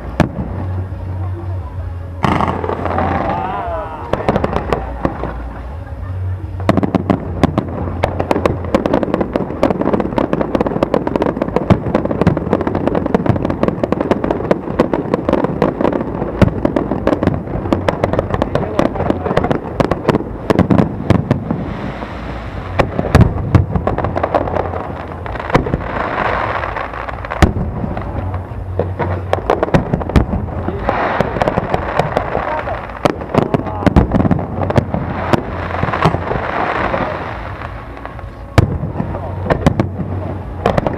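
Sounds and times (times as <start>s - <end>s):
fireworks bangs and crackles: 0.0s - 40.9s
heavy fireworks booms: 0.0s - 40.9s.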